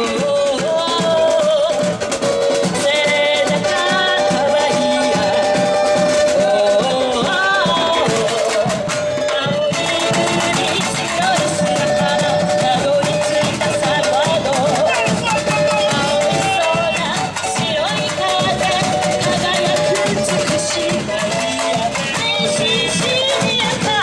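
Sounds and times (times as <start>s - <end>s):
melody over drums: 0.0s - 24.0s
snare drums: 0.0s - 24.0s.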